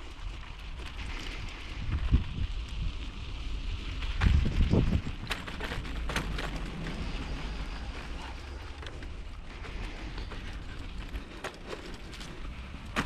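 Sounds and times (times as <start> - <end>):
bicycle rolling on dirt: 0.0 - 13.0
bike rattling over bumps: 0.0 - 13.0.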